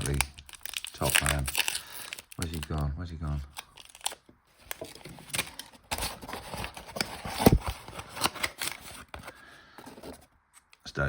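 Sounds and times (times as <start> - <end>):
rustling packaging: 0.0 - 10.8.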